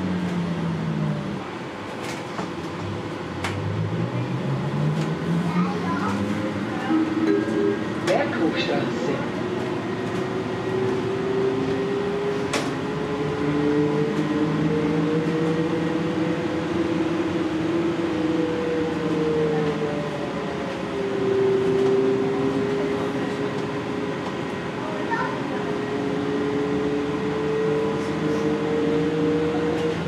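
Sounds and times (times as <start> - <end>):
trolleybus electric drive whining: 0.0 - 30.0.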